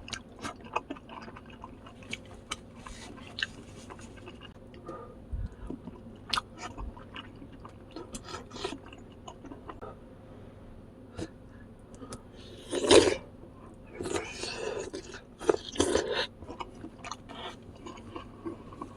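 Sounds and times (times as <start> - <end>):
person chewing food: 0.0 - 10.0, 12.0 - 18.9.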